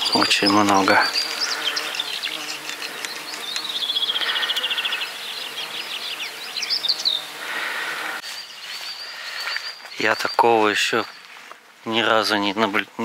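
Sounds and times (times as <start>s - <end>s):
songbird trilling and chirping: 0.0s - 7.4s, 8.2s - 11.4s.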